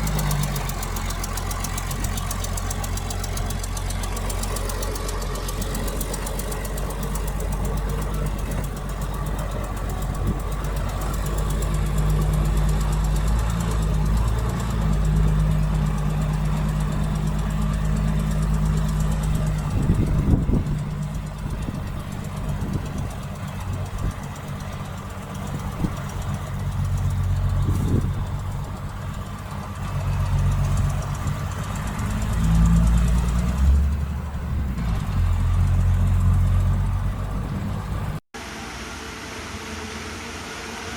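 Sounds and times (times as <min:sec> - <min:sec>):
heavy diesel engine clattering: 0:00.0 - 0:38.2.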